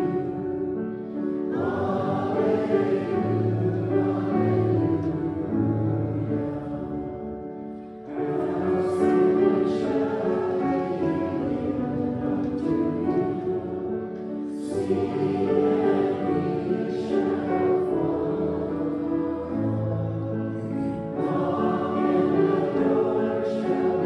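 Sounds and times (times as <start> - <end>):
congregation singing a hymn: 0.0 - 24.0.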